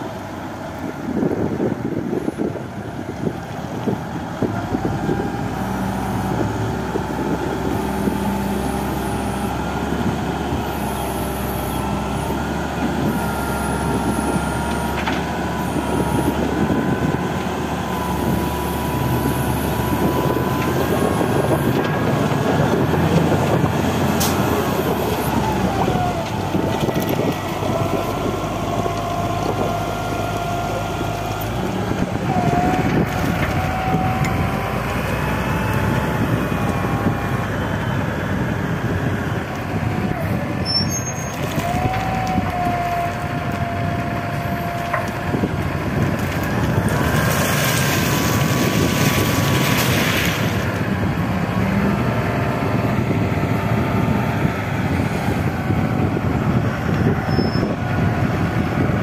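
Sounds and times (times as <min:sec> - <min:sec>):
wheel loader diesel engine: 0:00.0 - 0:59.0.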